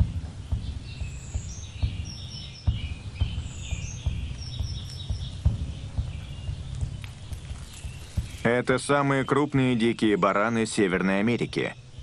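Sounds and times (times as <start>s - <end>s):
dull low thumps: 0.0s - 10.3s
small birds chirping: 0.0s - 12.0s.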